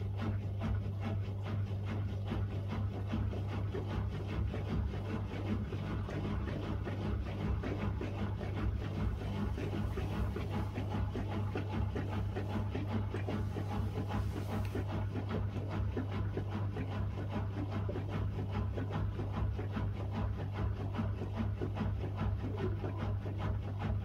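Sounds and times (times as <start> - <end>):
turning drum pulsing: 0.0 - 24.0
washing machine motor hum: 0.0 - 24.0.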